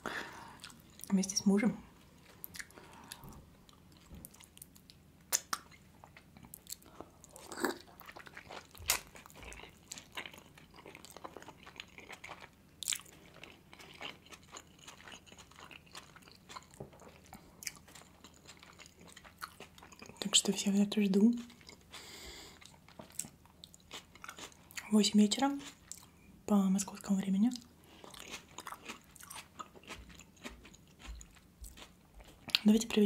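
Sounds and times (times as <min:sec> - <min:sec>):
chewing and wet mouth sounds: 0:00.6 - 0:01.2, 0:02.2 - 0:26.2, 0:27.0 - 0:33.0.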